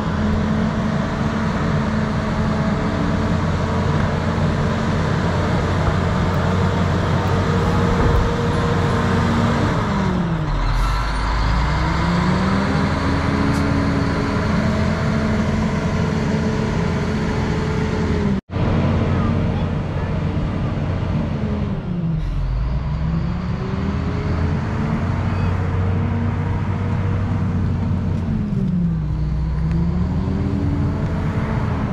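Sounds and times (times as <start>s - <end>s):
diesel engine running hard: 0.0s - 31.9s.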